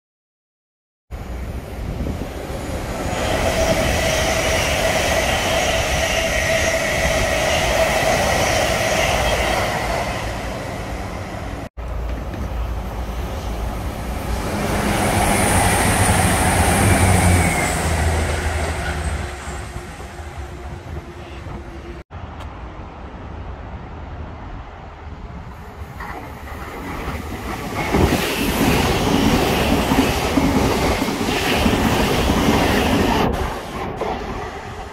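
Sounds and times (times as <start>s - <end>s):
diesel train passing: 1.1s - 34.9s
wheels rushing on rail: 1.1s - 34.9s.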